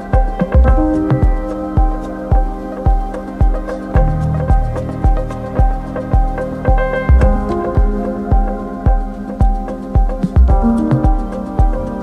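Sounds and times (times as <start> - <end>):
background music with low beat: 0.0 - 12.0.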